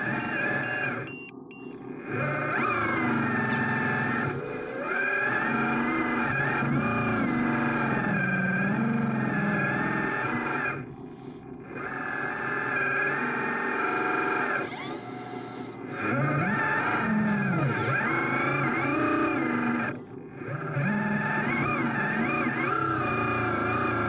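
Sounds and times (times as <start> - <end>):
electric motor whine: 0.0 - 24.0.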